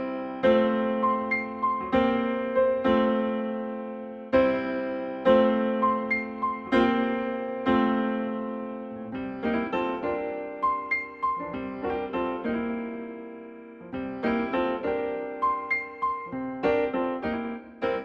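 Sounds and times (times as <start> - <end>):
electric piano melody: 0.0 - 18.0.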